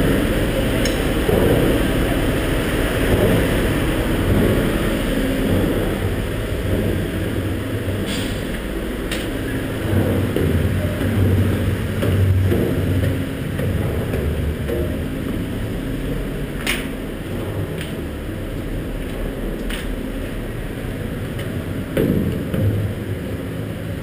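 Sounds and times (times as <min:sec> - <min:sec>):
machinery rumble: 0:00.0 - 0:24.0.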